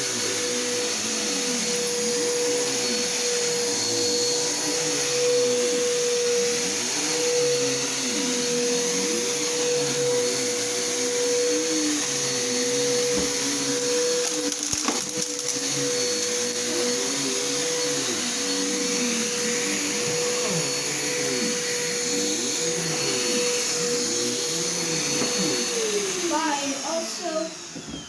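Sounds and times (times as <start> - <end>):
vacuum cleaner motor whine: 0.0 - 28.0.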